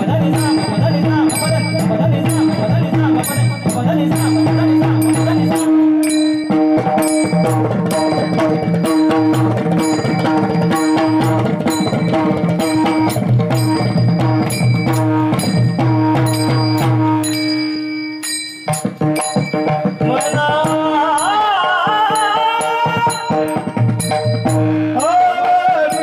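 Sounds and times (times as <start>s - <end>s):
hand cymbals ringing: 0.0s - 26.0s
hand drum steady rhythm: 0.0s - 26.0s.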